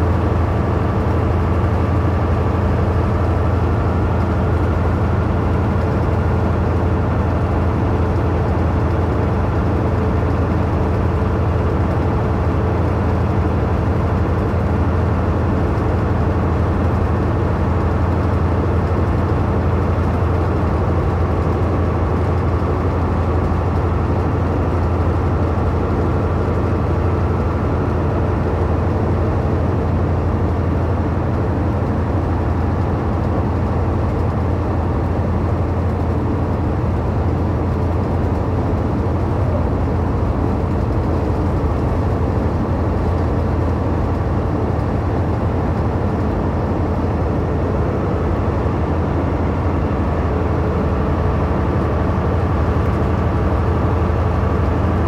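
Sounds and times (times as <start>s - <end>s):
truck engine droning: 0.0s - 55.0s.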